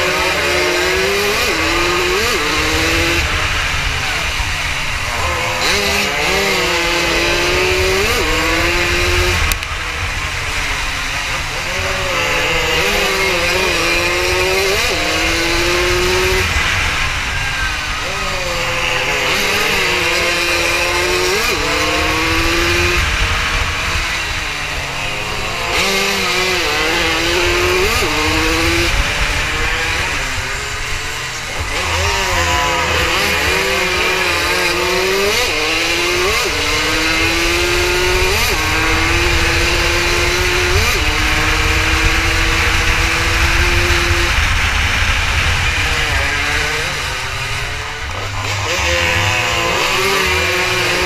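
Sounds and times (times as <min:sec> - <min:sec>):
racing motorcycle engine upshifting: 0:00.0 - 0:51.0.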